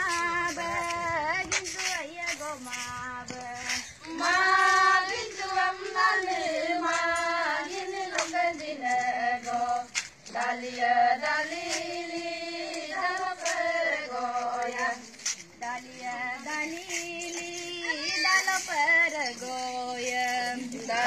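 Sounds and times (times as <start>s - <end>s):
group singing folk song: 0.0s - 21.0s.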